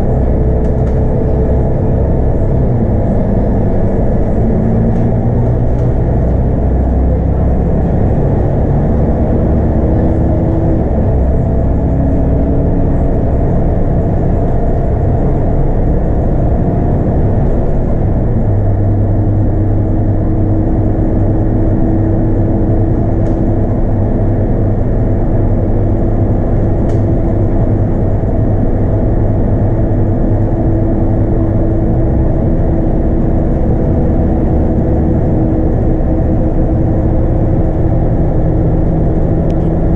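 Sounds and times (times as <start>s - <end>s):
diesel bus engine running: 0.0s - 39.9s
road noise: 0.0s - 39.9s.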